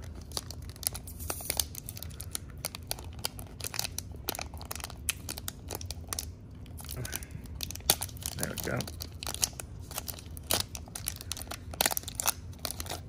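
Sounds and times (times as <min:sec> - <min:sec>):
wrapper crinkling and tearing: 0:00.0 - 0:13.0.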